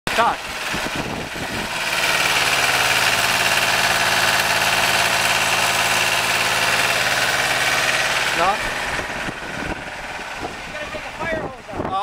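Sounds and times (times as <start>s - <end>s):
water pump engine running: 0.1s - 12.0s.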